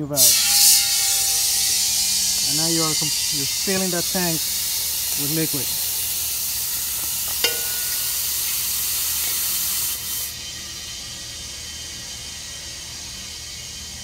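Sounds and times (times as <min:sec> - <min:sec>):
propane hissing through valve: 0:00.0 - 0:14.0.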